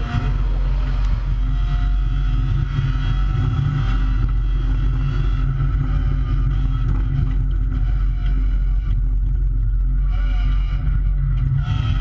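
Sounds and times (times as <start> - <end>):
rally car engine running: 0.0 - 12.0.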